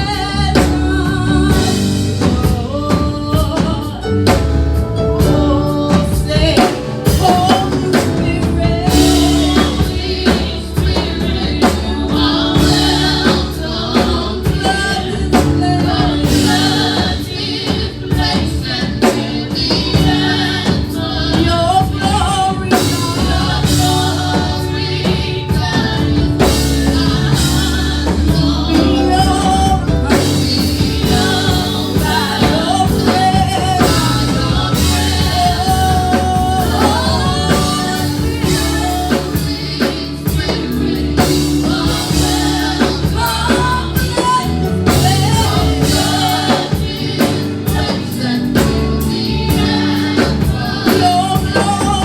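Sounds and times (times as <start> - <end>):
gospel band with drum kit: 0.0 - 52.0.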